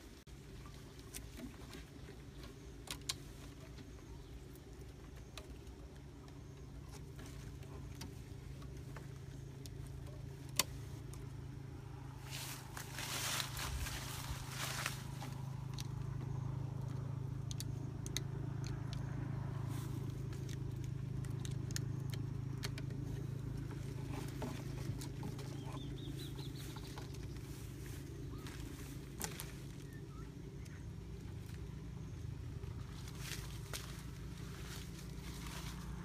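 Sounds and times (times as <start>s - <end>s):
low engine-like hum: 0.0s - 36.0s
light clicks and rustling: 0.6s - 11.6s, 12.4s - 36.0s.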